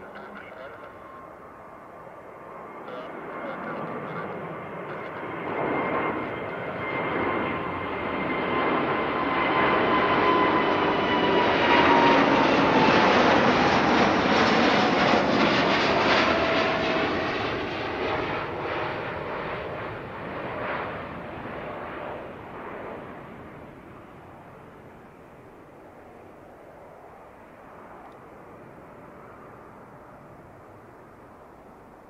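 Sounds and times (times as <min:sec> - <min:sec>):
jet engines roaring with whine: 0:00.0 - 0:32.0.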